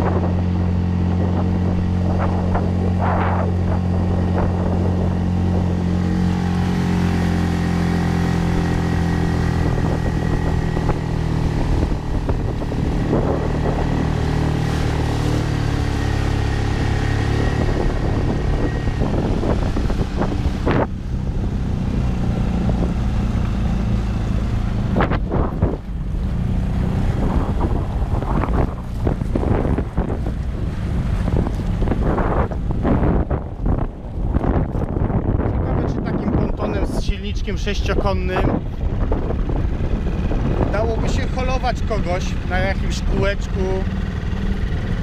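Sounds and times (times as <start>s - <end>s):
outboard motor running: 0.0s - 45.0s.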